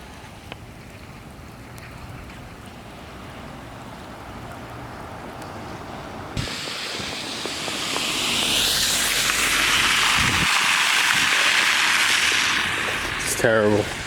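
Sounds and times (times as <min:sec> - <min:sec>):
car tyres hissing through slush: 0:02.6 - 0:14.0.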